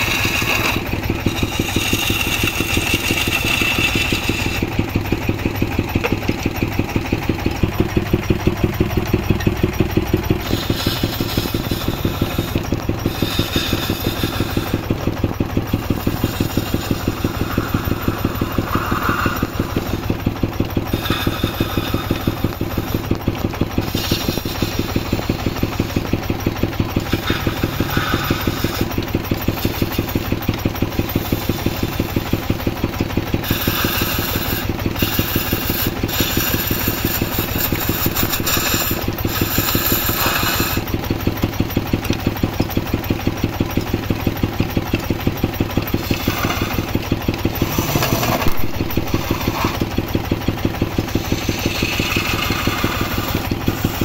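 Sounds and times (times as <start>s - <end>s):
gouge scraping spinning wood: 0.0s - 54.0s
wood lathe humming: 0.0s - 54.0s.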